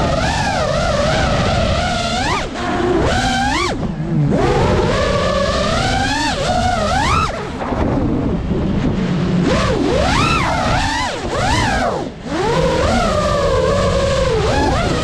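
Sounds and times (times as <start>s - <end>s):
drone propellers whining: 0.0s - 15.0s
wind buffeting microphone: 0.0s - 15.0s.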